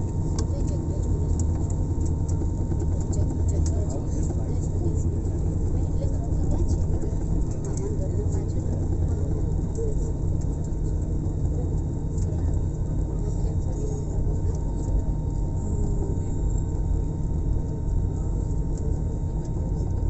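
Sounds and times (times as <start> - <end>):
airliner engine rumble: 0.0 - 20.0.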